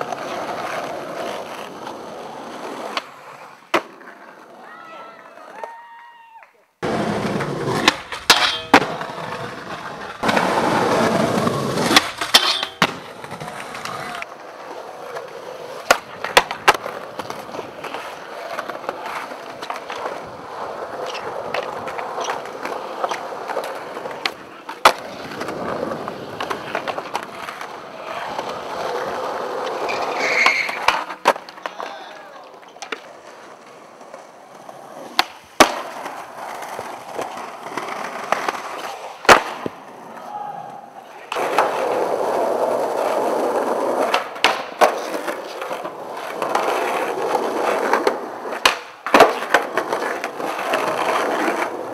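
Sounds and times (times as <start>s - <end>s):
rough skateboard scraping: 0.0s - 4.6s, 6.8s - 51.9s
skateboards clacking: 0.0s - 51.9s
skateboards rolling on concrete: 0.0s - 51.9s.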